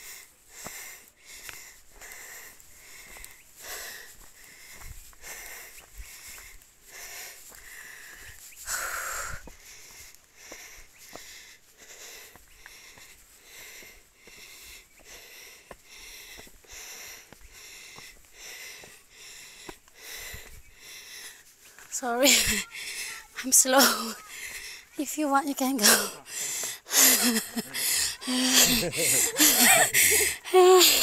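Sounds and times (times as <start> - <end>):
person panting: 0.0 - 25.0, 25.8 - 31.0.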